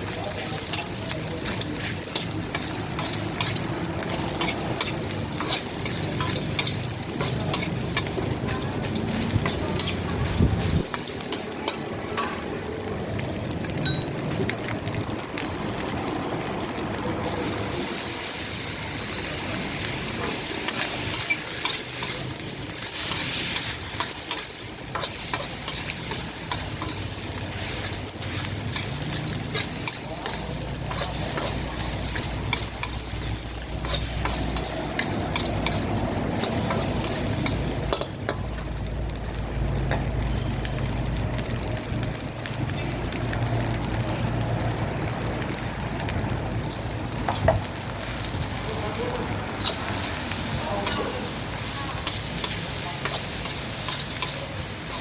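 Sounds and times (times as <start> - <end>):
oil sizzling: 0.0 - 55.0.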